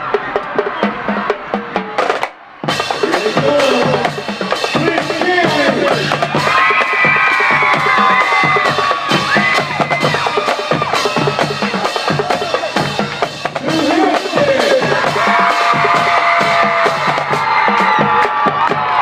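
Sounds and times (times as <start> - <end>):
bass drum and snare beat: 0.0 - 19.0.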